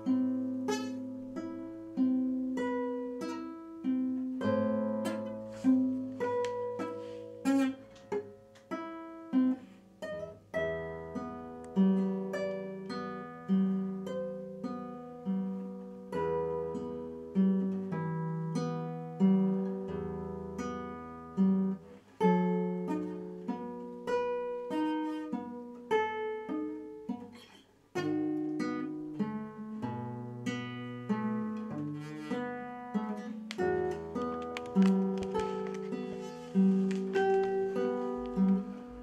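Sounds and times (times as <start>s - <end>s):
classical guitar fingerstyle: 0.0s - 39.0s.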